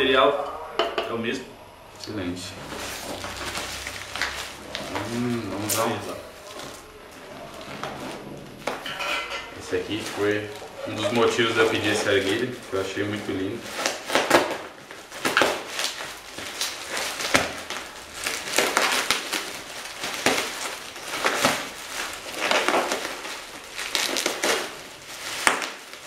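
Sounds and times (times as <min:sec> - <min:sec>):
bubble wrap crinkling: 0:01.9 - 0:26.0.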